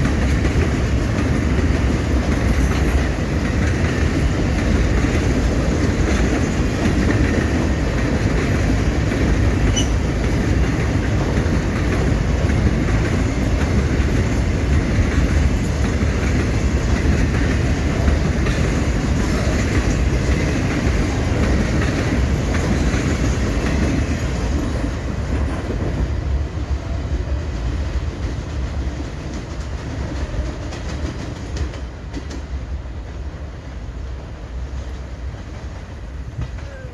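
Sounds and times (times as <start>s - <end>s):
freight train wheels clattering: 0.0s - 36.9s.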